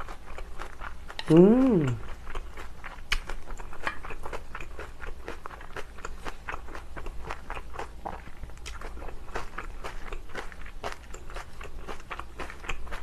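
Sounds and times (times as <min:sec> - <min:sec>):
chewing with crunches: 0:00.0 - 0:13.0.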